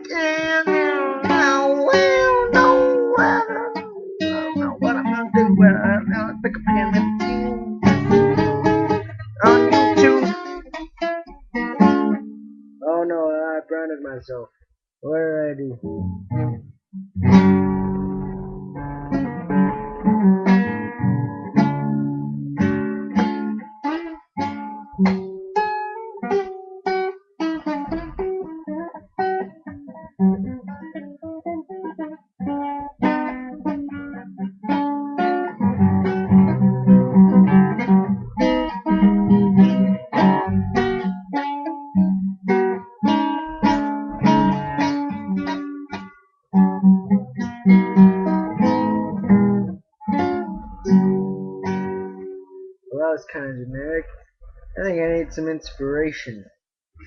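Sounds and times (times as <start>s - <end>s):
fingerpicked guitar: 0.0s - 14.4s, 15.0s - 56.3s.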